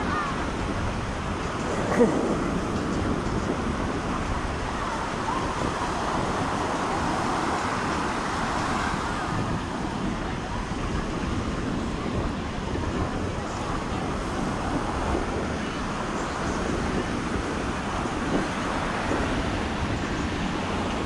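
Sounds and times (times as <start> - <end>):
faint voices: 0.0 - 21.0
ocean surf: 0.0 - 21.0
wind rumble on microphone: 0.0 - 21.0.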